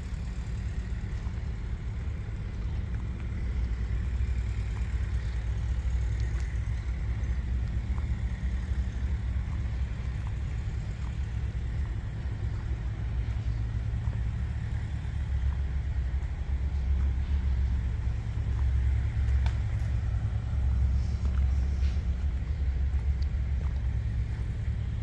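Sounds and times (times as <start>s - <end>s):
combine harvester engine running: 0.0s - 25.0s.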